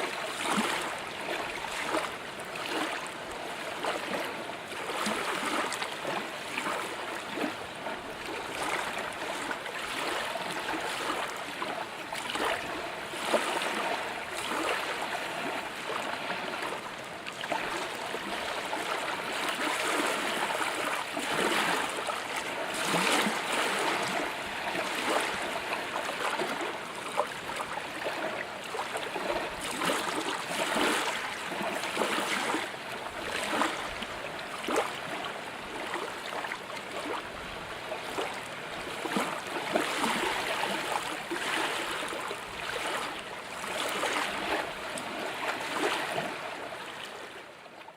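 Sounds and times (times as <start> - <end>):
water lapping against boat hull: 0.0 - 47.9.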